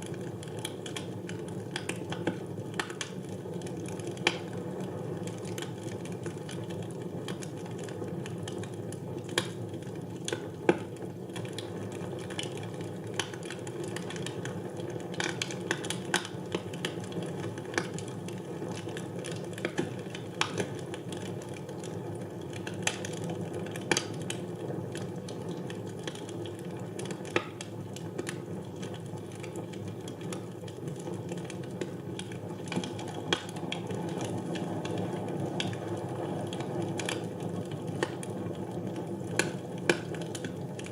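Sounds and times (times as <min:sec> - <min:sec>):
crackles and pops of burning logs: 0:00.0 - 0:40.9.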